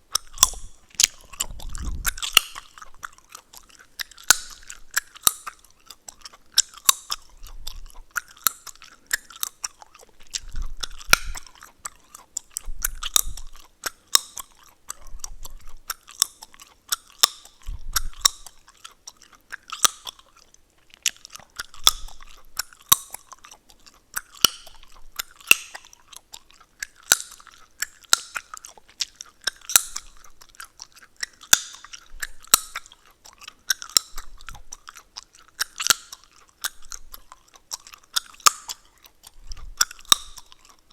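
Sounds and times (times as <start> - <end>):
gum chewing with popping clicks: 0.0 - 40.9.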